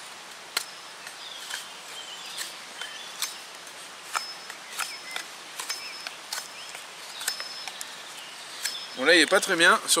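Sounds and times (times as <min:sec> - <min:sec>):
birds chirping and whistling: 0:00.6 - 0:09.6.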